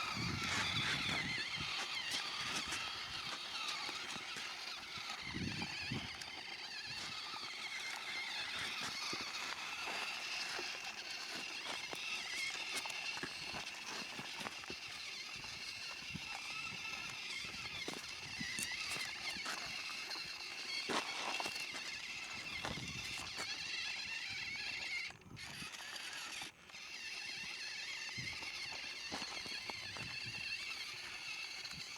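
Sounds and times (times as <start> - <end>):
small electric motors whining: 0.0 - 31.9.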